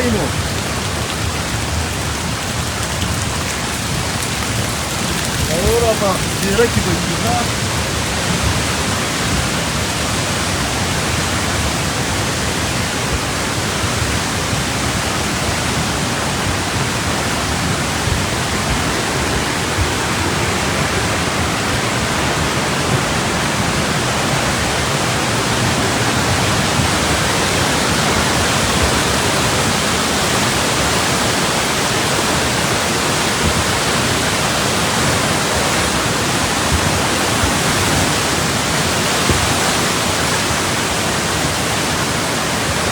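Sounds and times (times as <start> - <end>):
loud rush of water: 0.0 - 42.9.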